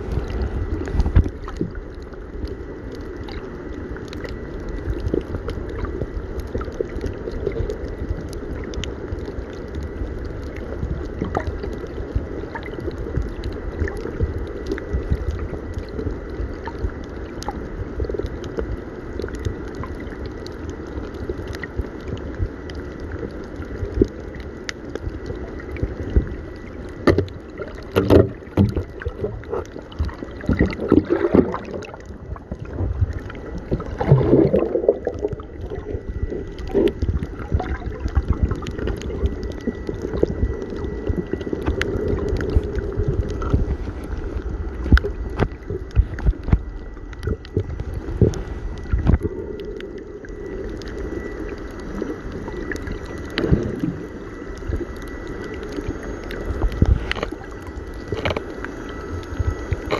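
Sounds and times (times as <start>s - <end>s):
boat engine rumble: 0.0s - 59.9s
water noise: 0.0s - 59.9s.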